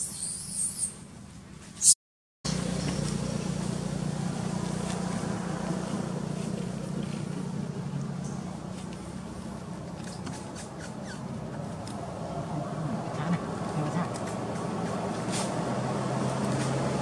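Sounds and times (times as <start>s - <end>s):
low engine drone: 2.5s - 17.0s.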